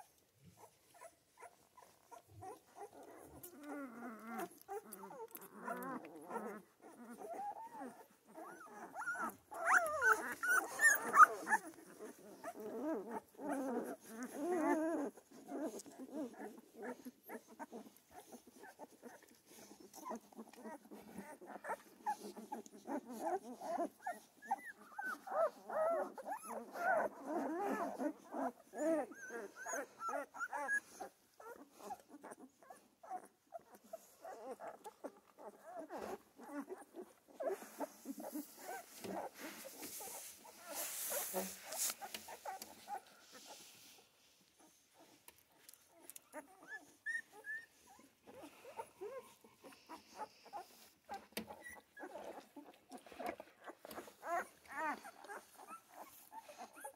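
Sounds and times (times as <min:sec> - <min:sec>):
puppies whimpering and squeaking: 0:00.5 - 0:56.9.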